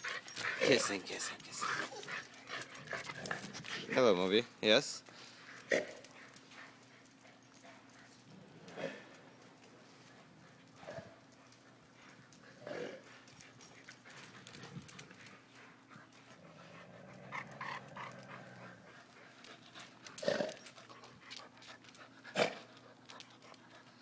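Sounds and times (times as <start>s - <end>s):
dogs play-wrestling: 0.0s - 24.0s.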